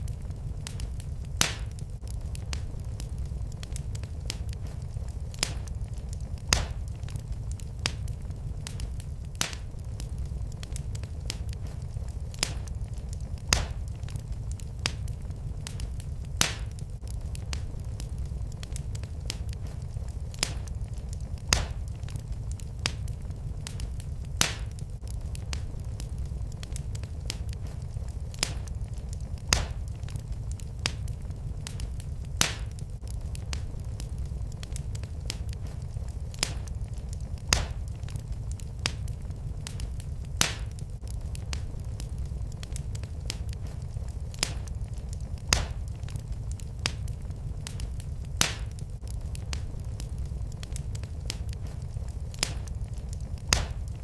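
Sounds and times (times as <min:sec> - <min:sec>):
fire crackling and popping: 0:00.0 - 0:54.0
fire low rumble: 0:00.0 - 0:54.0.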